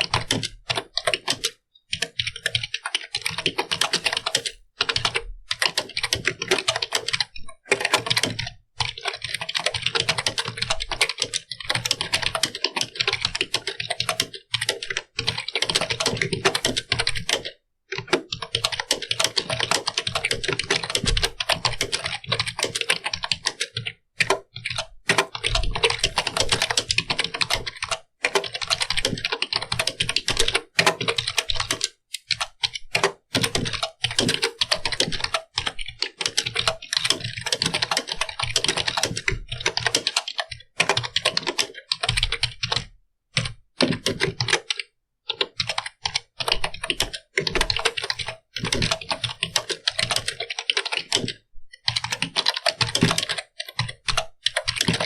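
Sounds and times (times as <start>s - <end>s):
fast typing on a keyboard: 0.0s - 55.0s.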